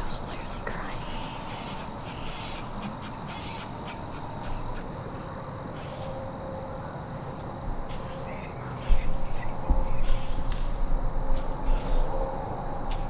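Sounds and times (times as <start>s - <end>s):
steady high hum: 0.0s - 13.0s.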